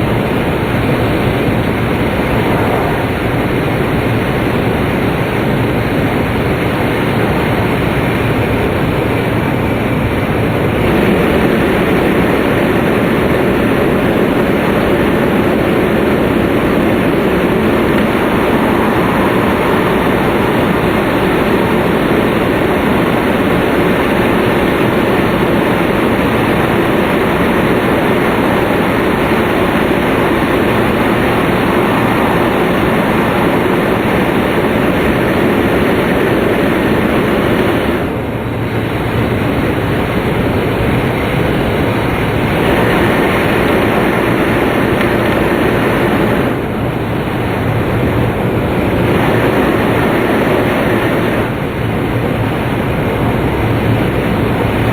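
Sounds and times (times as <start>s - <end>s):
train rumble inside cabin: 0.0s - 54.9s.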